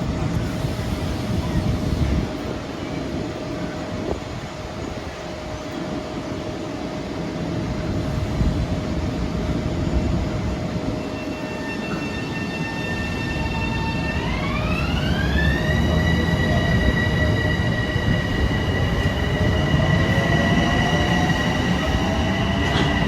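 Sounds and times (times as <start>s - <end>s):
electric train rumbling on rails: 0.0s - 23.0s.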